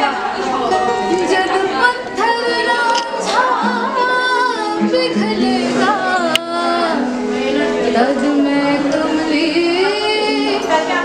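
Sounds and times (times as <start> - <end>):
music with singing voice: 0.0 - 11.0.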